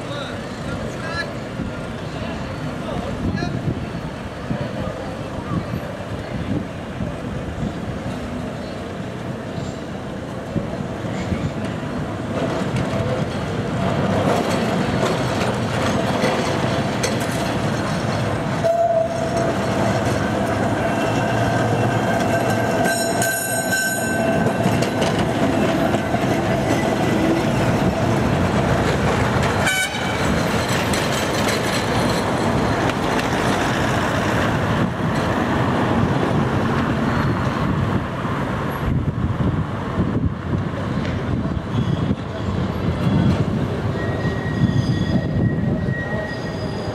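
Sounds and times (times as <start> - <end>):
tram wheels and motors rumbling: 0.0 - 46.9
tram whine: 0.0 - 46.9.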